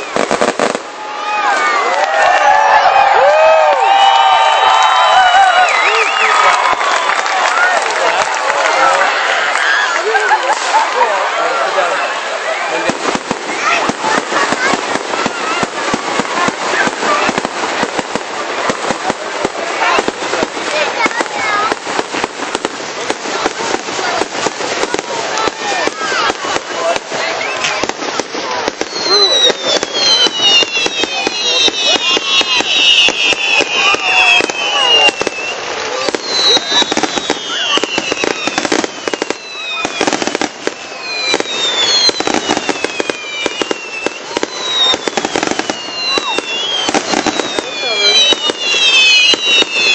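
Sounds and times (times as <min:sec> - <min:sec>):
fireworks crackling: 0:00.0 - 0:49.9
fireworks popping and banging: 0:00.0 - 0:49.9.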